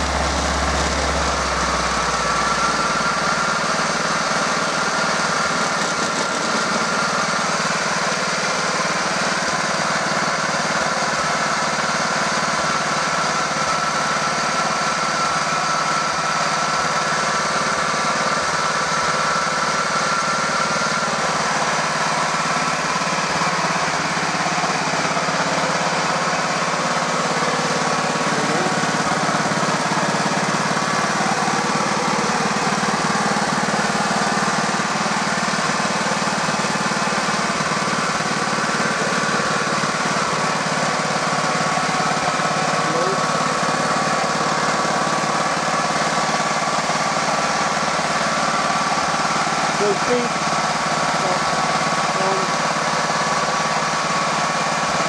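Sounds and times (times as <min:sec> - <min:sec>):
roller engine running: 0:00.0 - 0:55.0.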